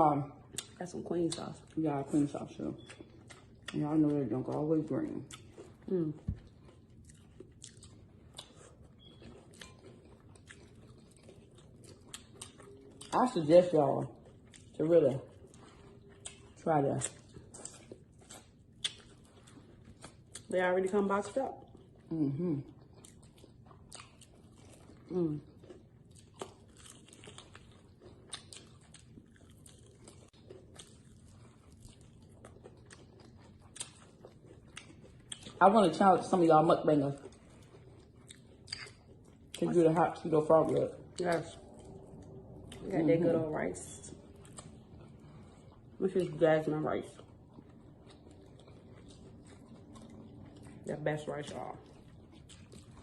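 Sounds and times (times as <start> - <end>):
faint chewing: 0.2 - 53.0.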